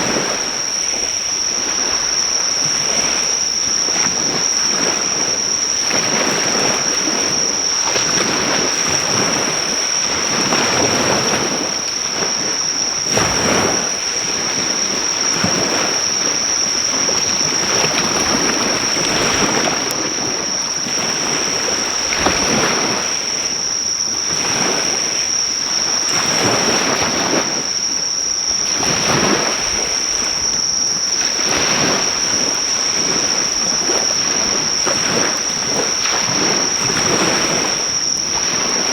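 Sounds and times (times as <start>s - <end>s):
high-pitched insect trill: 0.0s - 38.9s
sea waves washing ashore: 0.0s - 38.9s.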